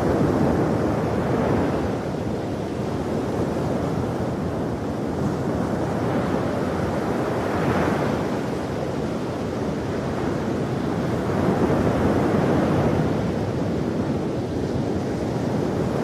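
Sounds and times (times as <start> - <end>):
ocean waves breaking on shore: 0.0 - 16.0.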